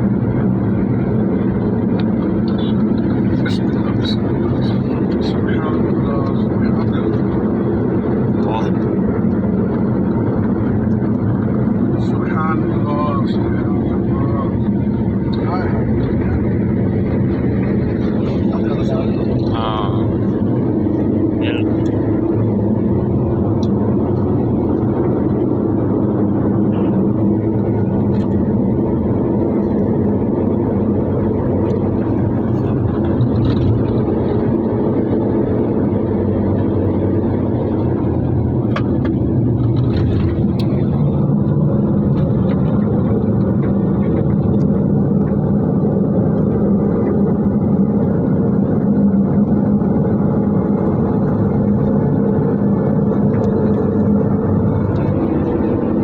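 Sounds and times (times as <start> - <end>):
road noise: 0.0 - 56.0
vehicle engine hum: 0.0 - 56.0.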